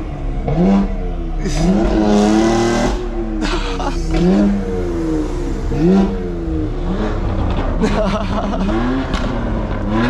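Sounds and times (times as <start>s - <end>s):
car engine revving hard: 0.0s - 10.0s
loud exhaust rush: 0.0s - 10.0s.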